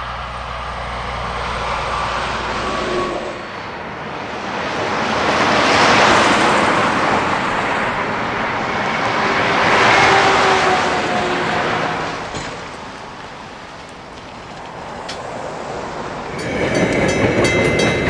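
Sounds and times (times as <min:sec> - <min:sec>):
trucks passing on highway: 0:00.0 - 0:18.0.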